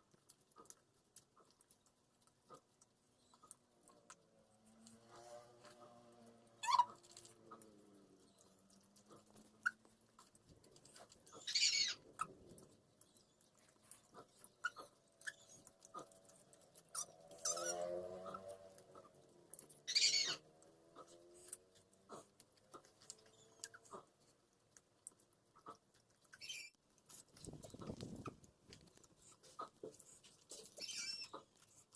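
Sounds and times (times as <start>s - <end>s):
chewing mouth clicks: 0.0s - 4.3s, 6.7s - 31.9s.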